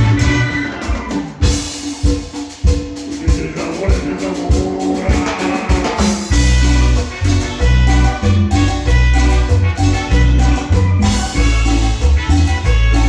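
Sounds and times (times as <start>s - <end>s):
cumbia band music: 0.0s - 13.0s.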